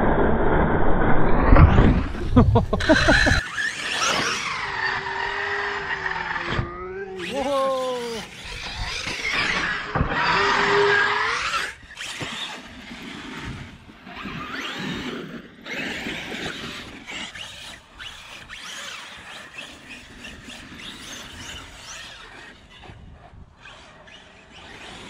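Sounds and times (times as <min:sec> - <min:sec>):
electric motor whining: 0:02.7 - 0:25.0.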